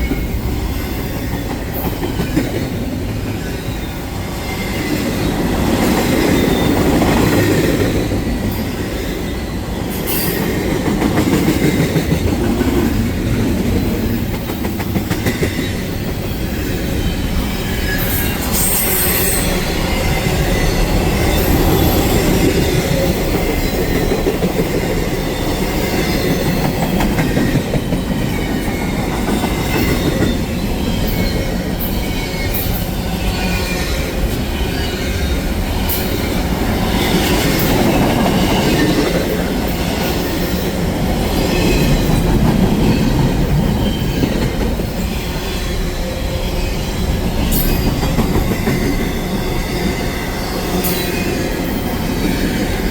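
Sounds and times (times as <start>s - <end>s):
rail clacks: 0.0s - 52.9s
steel wheels rumbling on rail: 0.0s - 52.9s.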